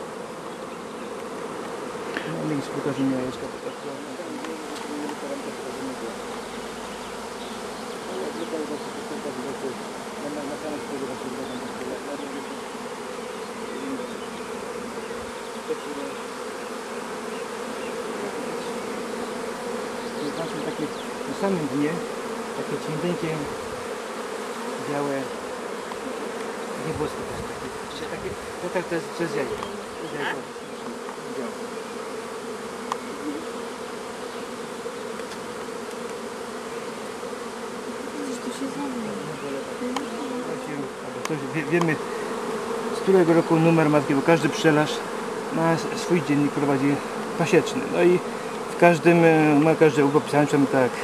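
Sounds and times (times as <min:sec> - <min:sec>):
honey bees humming: 0:00.0 - 0:51.0.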